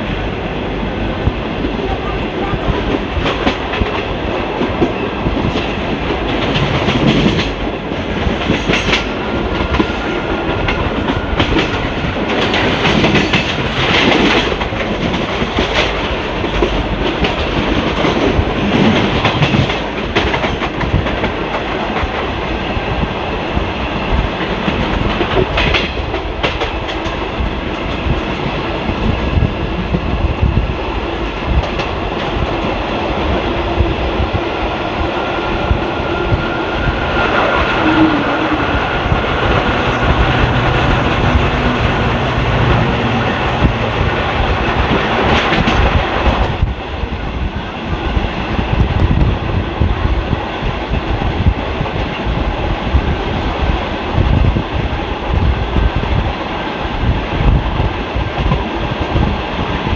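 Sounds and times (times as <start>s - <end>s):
train wheels rumbling on rail: 0.0s - 59.9s
clickety-clack of rail joints: 1.2s - 35.0s, 35.6s - 59.9s.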